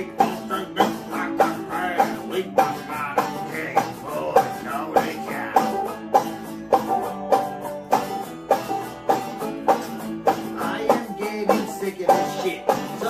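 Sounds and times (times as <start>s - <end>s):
banjo and electric guitar playing: 0.0s - 13.0s.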